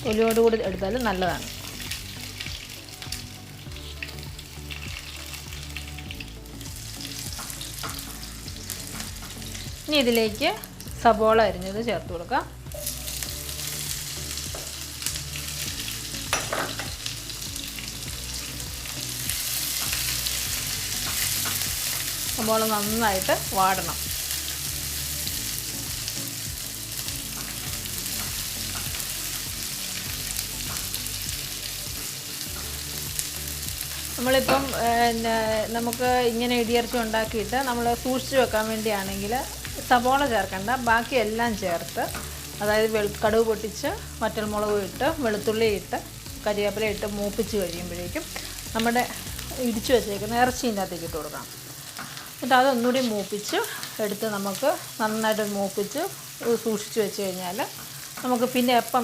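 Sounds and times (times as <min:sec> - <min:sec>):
spices sizzling in hot oil: 0:00.0 - 0:59.0.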